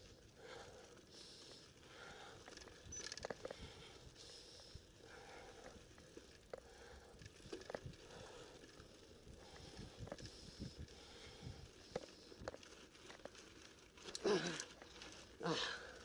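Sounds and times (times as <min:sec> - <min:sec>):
bike tyres on gravel: 0:00.0 - 0:16.0.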